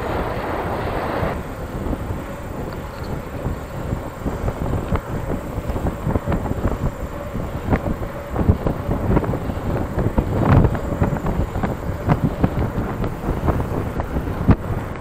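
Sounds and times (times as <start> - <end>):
wind buffeting microphone: 0.0 - 15.0
bike rattling on rough surface: 1.4 - 15.0.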